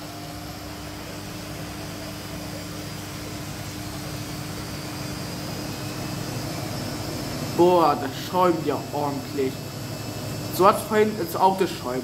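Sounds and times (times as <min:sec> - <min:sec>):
washing machine drum spinning: 0:00.0 - 0:12.0.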